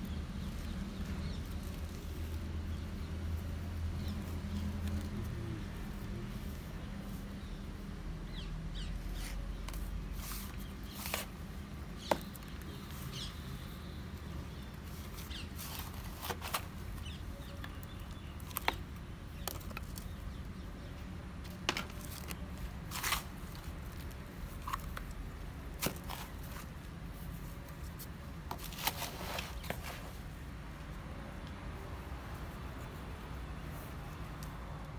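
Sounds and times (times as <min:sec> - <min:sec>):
hands crumbling potting soil: 0:00.0 - 0:31.6.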